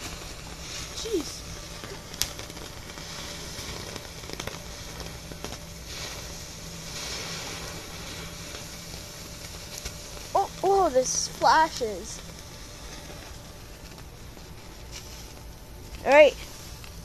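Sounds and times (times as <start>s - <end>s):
firework crackles: 0.0s - 17.0s
firework hissing: 0.0s - 17.0s.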